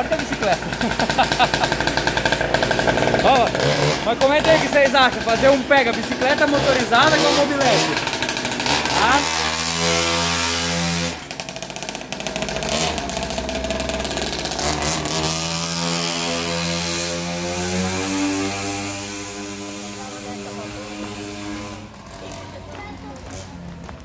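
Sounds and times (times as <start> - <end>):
two-stroke engine revving: 0.0 - 24.0.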